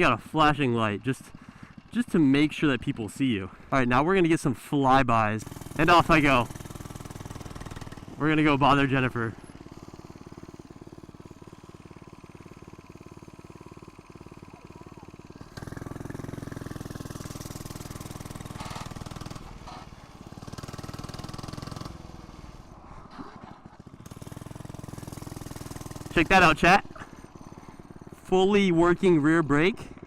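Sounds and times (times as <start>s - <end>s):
mini bike engine passing: 5.4s - 30.0s.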